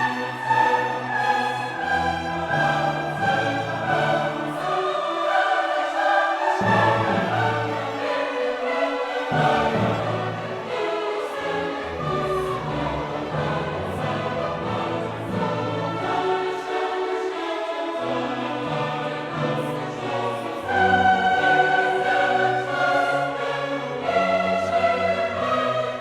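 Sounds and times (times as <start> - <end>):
choir singing held notes: 0.0 - 26.0
orchestral strings: 0.0 - 26.0.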